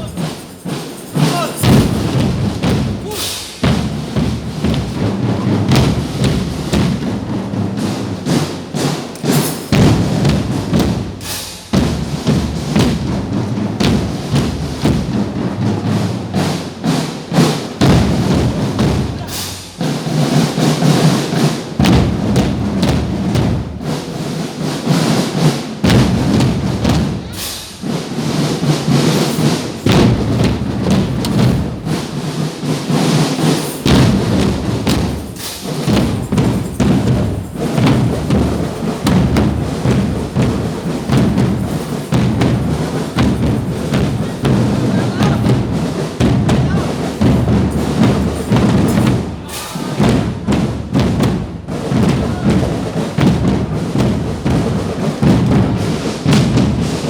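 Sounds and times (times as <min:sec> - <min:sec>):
marching drum band playing: 0:00.0 - 0:57.0.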